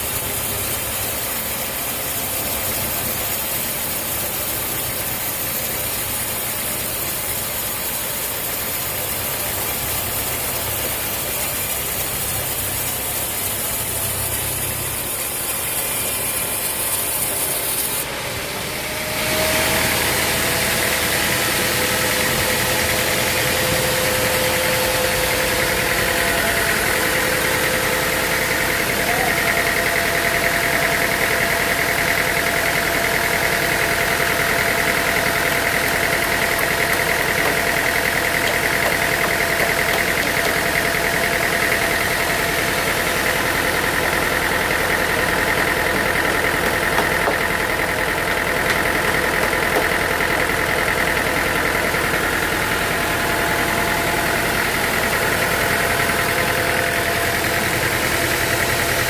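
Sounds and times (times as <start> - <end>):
sawmill machinery running: 0.0 - 59.0
steady machine whine: 0.0 - 59.0.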